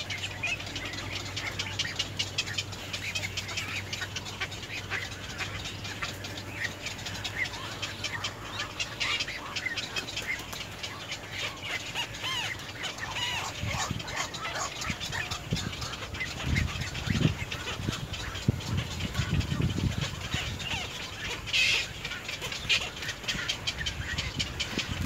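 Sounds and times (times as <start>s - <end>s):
birds chirping and clicking: 0.0s - 25.0s
low steady hum: 0.0s - 25.0s.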